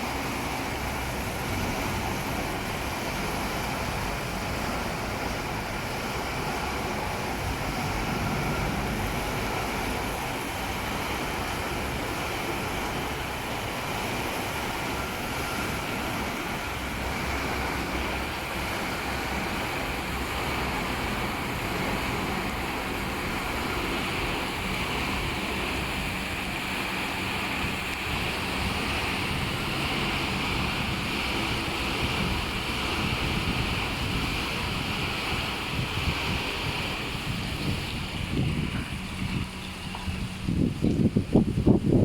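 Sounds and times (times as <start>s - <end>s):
water spray rushing: 0.0s - 42.0s.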